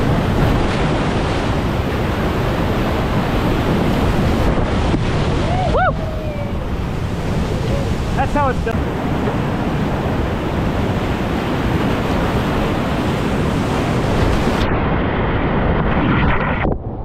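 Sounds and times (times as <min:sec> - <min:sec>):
rush of whitewater: 0:00.0 - 0:15.0
wind buffeting microphone: 0:00.0 - 0:17.0.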